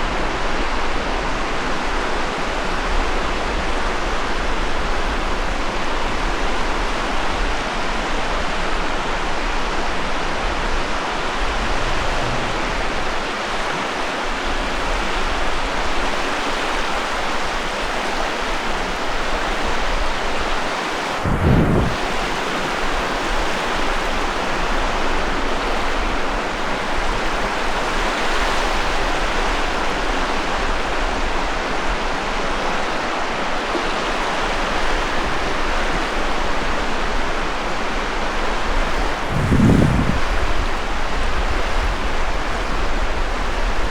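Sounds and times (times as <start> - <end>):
ocean surf on beach: 0.0 - 43.9.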